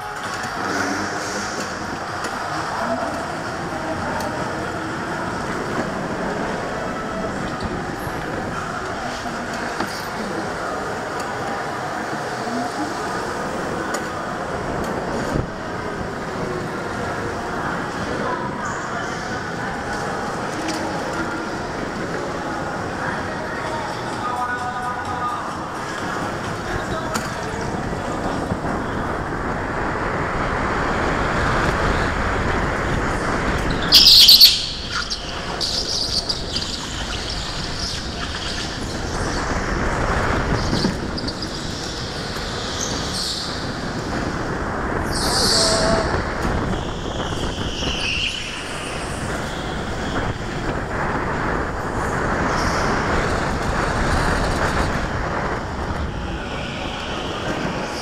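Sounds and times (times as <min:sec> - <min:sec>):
go-kart driving and tyre noise: 0:00.0 - 0:58.0.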